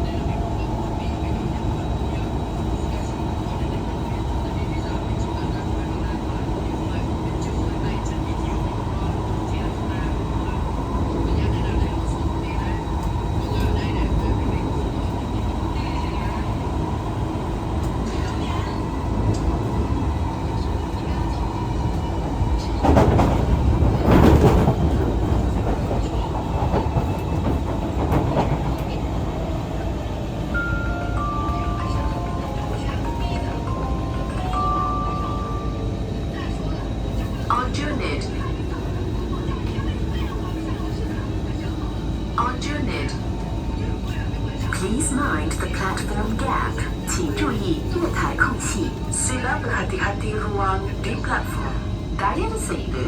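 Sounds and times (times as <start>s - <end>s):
train wheels rumbling on rail: 0.0s - 34.6s, 35.2s - 53.0s.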